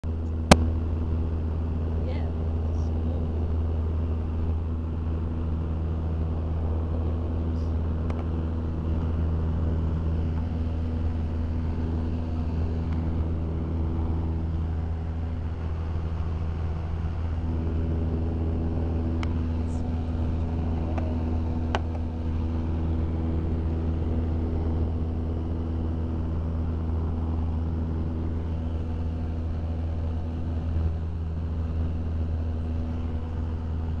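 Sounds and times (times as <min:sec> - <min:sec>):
small aircraft engine drone: 0:00.0 - 0:34.0.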